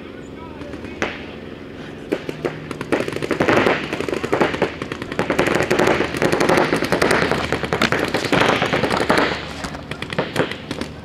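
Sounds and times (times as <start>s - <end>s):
paintball markers firing: 0.6s - 1.4s, 2.1s - 11.0s.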